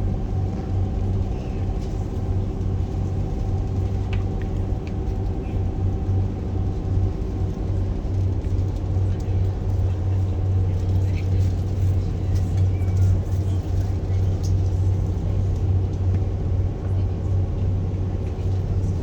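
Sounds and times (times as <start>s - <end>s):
boat engines droning: 0.0s - 19.0s.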